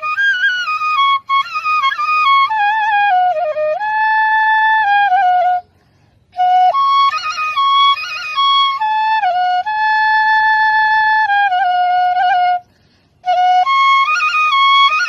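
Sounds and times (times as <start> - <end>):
bamboo flute melody: 0.0 - 15.0.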